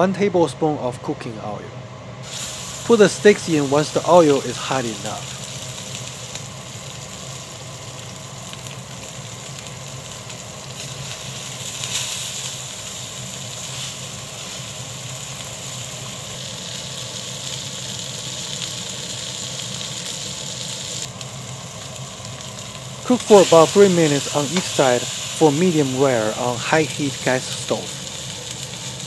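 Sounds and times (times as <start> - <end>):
steak sizzling in hot oil: 2.2 - 29.0.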